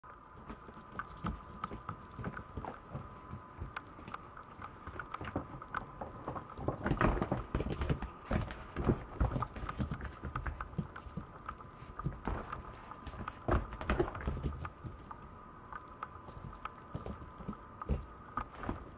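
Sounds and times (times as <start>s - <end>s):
puppy claws clicking on wooden floor: 0.3s - 18.9s.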